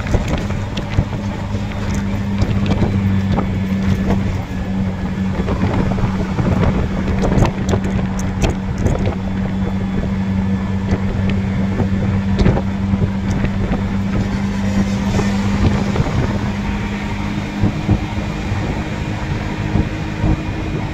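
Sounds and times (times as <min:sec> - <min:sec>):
road and wind noise: 0:00.0 - 0:20.9
vehicle engine hum: 0:00.0 - 0:20.9
wind on microphone: 0:00.0 - 0:20.9.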